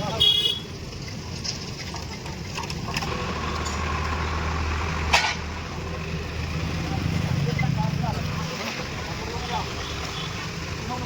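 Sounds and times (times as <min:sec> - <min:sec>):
tractor diesel engine running: 0:00.7 - 0:11.0.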